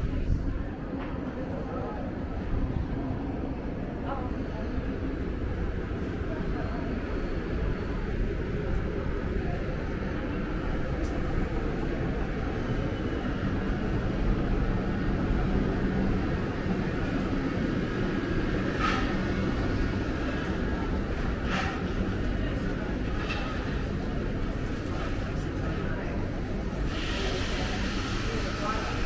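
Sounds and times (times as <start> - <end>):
low rumble of town ambience: 0.0 - 29.0.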